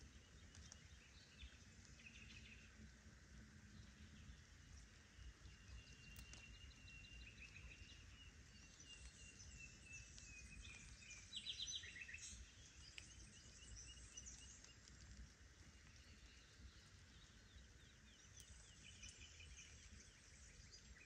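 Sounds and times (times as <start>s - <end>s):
low outdoor rumble: 0.0s - 21.0s
small birds chirping and trilling: 0.0s - 21.0s.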